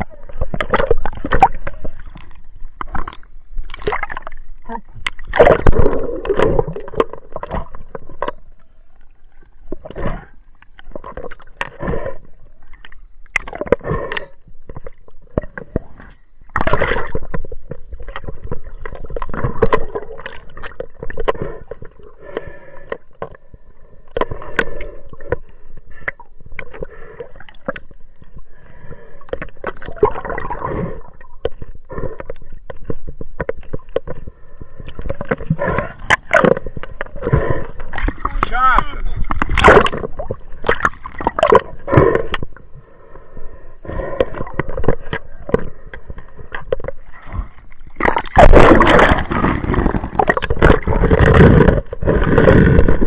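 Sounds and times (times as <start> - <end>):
water splashing against boat: 0.0 - 42.9, 43.8 - 53.0.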